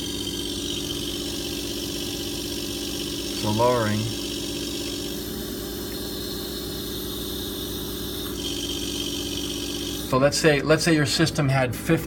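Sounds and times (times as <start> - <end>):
valve hissing: 0.0 - 10.6
pump humming: 0.0 - 12.0.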